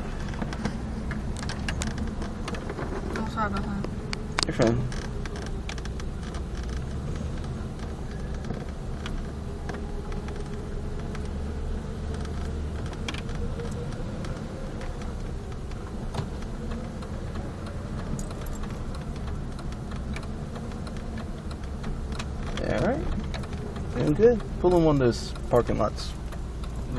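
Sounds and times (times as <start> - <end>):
light rattles: 0.0 - 26.9
truck engine rumble: 0.0 - 26.9.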